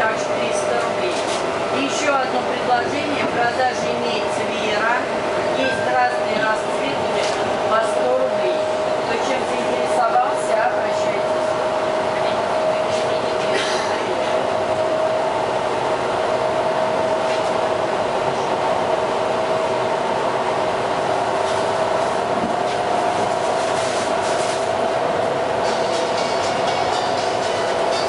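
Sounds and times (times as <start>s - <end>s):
train wheels on rail: 0.0s - 28.0s.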